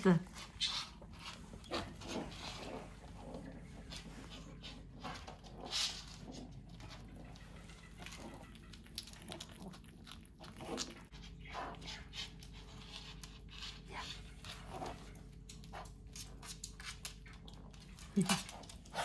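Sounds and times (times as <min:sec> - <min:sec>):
dogs sniffing: 0:00.1 - 0:19.0
dogs biting eggs: 0:00.4 - 0:19.0.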